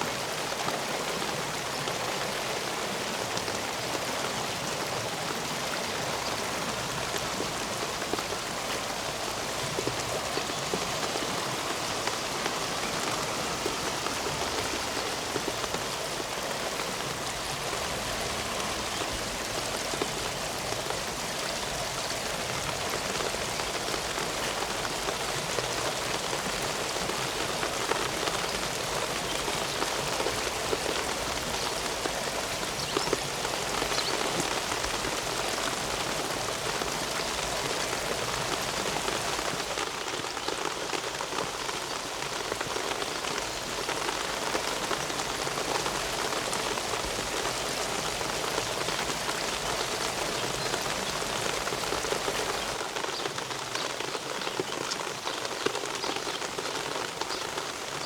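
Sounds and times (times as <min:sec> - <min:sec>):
rain on hard surfaces: 0:00.0 - 0:58.0
raindrops ticking close by: 0:00.0 - 0:58.0.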